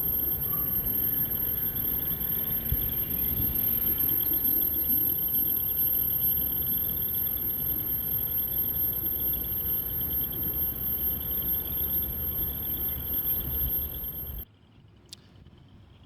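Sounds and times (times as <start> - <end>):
high pulsing trill: 0.0 - 14.4.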